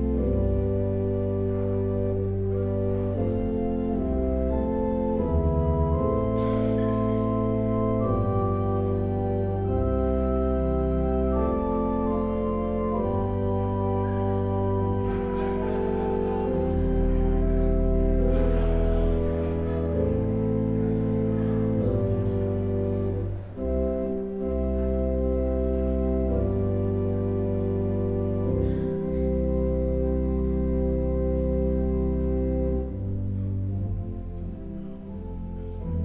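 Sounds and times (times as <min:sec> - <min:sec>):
church organ sustained chords: 0:00.0 - 0:36.0.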